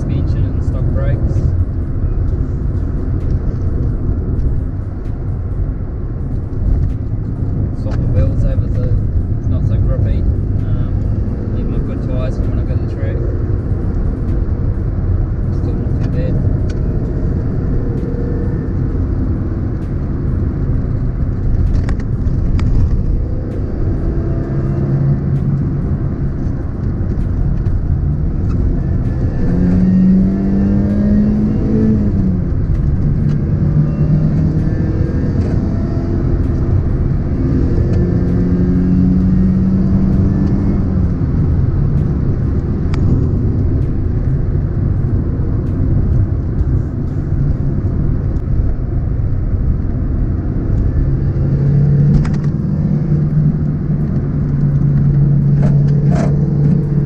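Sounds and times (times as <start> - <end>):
car engine revving through gears: 0.0 - 57.0
road and tyre rumble: 0.0 - 57.0.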